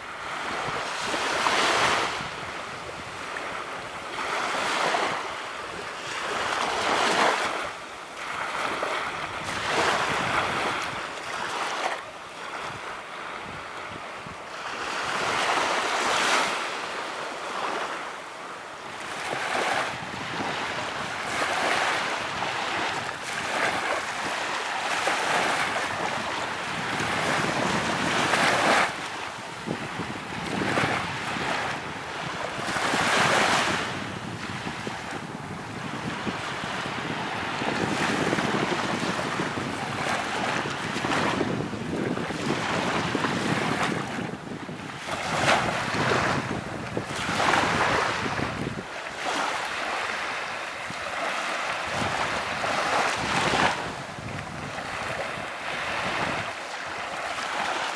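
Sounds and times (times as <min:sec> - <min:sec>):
small waves breaking on shore: 0:00.0 - 0:57.9.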